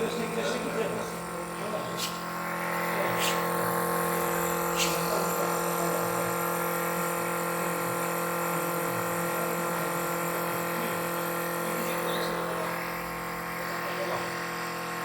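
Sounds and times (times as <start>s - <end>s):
air compressor motor hum: 0.0s - 15.0s.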